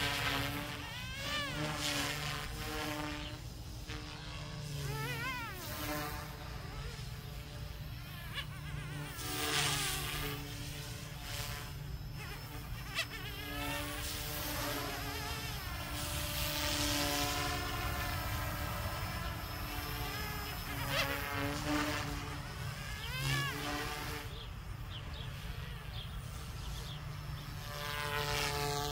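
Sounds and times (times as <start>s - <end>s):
rc helicopter buzzing whine: 0.0s - 28.9s.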